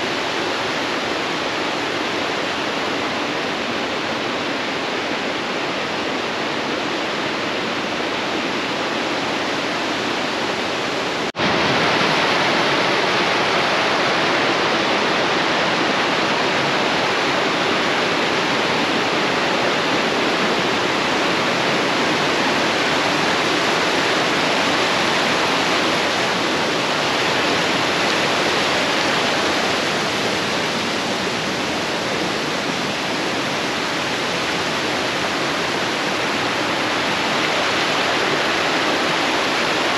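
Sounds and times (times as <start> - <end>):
fast-flowing stream water: 0.0 - 39.9.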